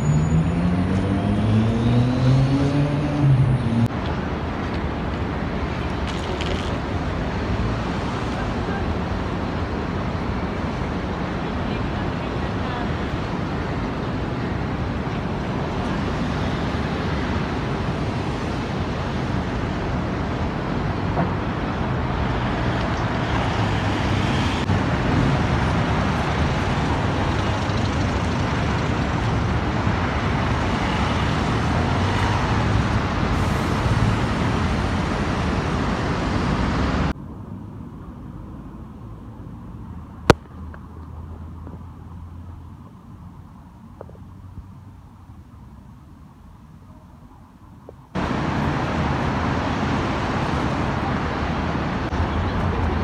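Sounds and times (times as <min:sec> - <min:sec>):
passing cars: 0:00.0 - 0:46.7, 0:47.7 - 0:53.0
street hum: 0:00.0 - 0:53.0.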